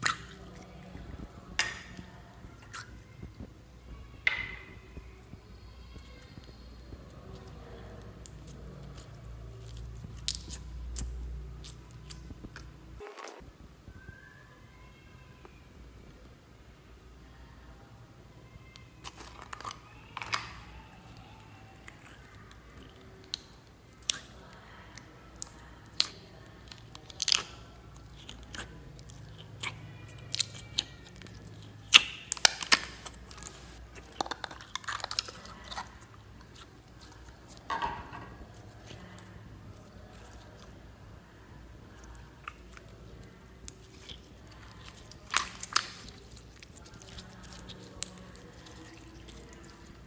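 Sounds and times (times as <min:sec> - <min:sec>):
slime popping and crackling: 0:00.0 - 0:13.4, 0:18.6 - 0:41.0, 0:41.6 - 0:50.0.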